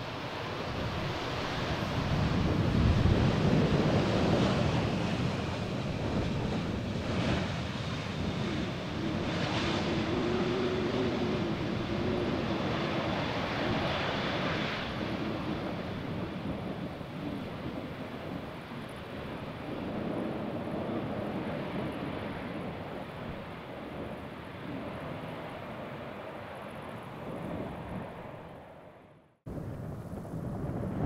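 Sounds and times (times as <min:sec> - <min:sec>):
jet engines rumbling: 0:00.0 - 0:31.0
wind buffeting microphone: 0:00.0 - 0:31.0.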